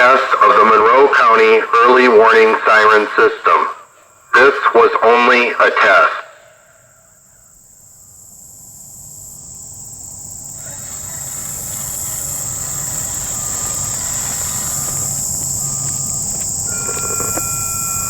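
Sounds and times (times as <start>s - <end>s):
insects singing: 0.0s - 18.0s.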